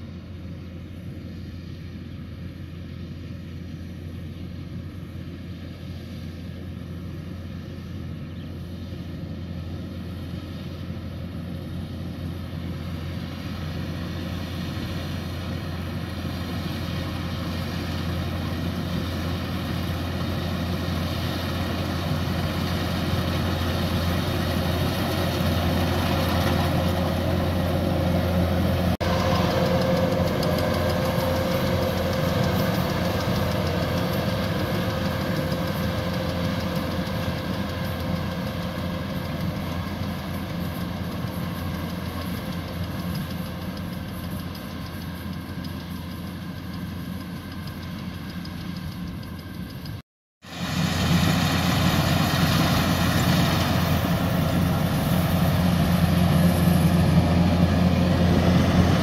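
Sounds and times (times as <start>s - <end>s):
combine harvester engine hum: 0.0s - 59.0s.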